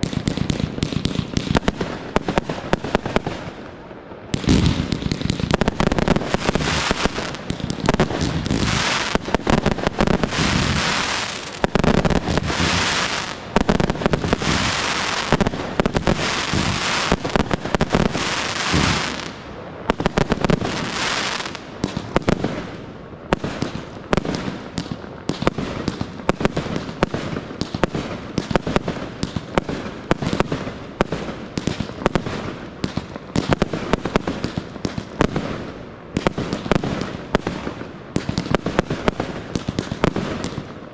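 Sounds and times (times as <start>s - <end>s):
fireworks bursting: 0.0s - 40.9s
fireworks hissing and crackling: 0.0s - 40.9s.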